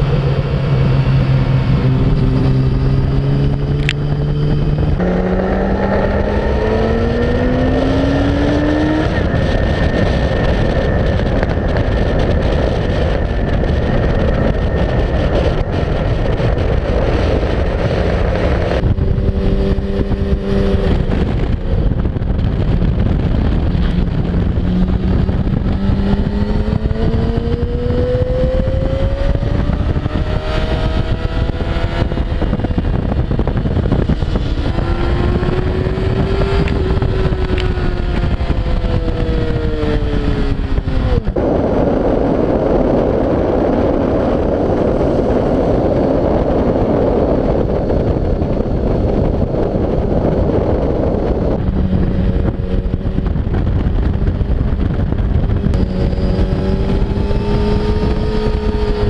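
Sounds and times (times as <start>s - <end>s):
motorcycle engine revving: 0.0s - 59.0s
wind noise on microphone: 0.0s - 59.0s.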